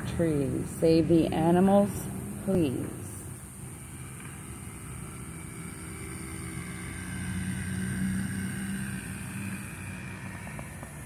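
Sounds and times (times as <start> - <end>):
distant vehicle engine hum: 0.0 - 11.0.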